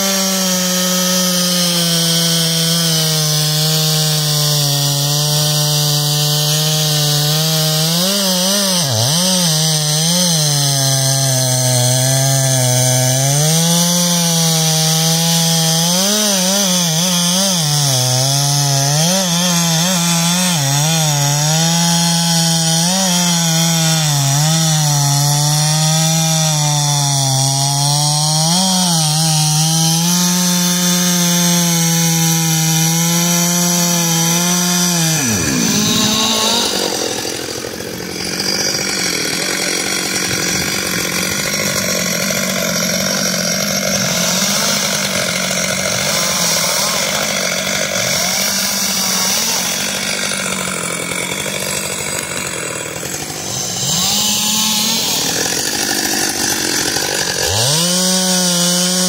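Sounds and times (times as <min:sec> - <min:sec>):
chainsaw cutting through wood: 0:00.0 - 0:59.0.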